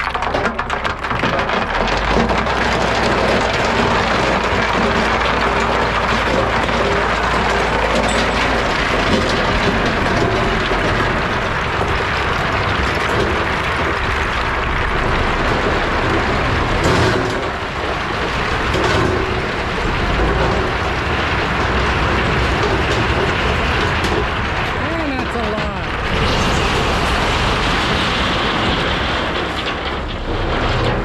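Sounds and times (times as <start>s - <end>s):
diesel engine under load: 0.0s - 31.0s
rocks rattling and sliding: 0.0s - 31.0s.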